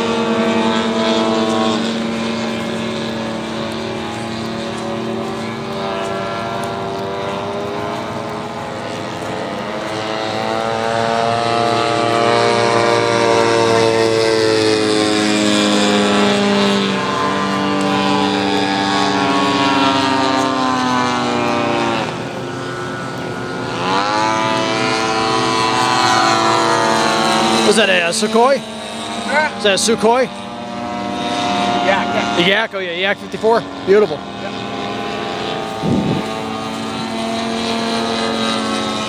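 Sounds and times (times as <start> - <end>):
model airplane engines droning: 0.0 - 39.0.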